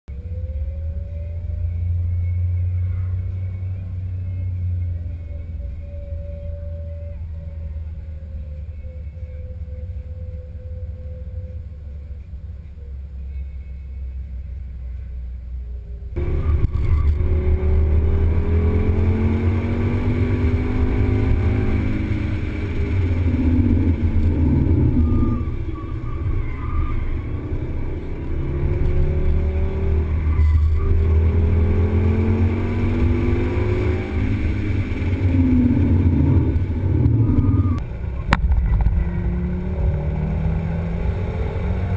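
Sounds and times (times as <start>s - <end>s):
car rumbling in motion: 0.0s - 41.9s
brake squeal tones: 0.1s - 41.9s.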